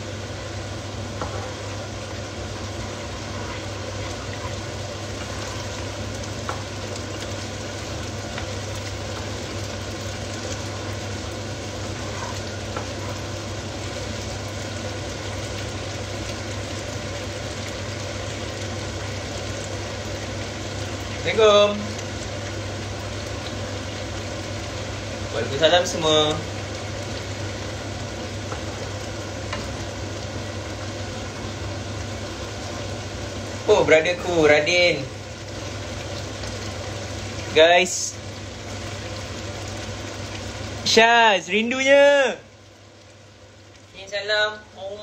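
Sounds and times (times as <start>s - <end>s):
sauce sizzling in a pan: 0.0s - 45.0s.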